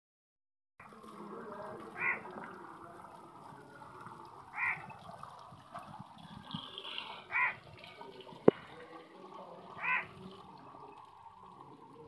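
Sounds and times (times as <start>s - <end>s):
hose water splashing on paving: 0.8s - 12.0s.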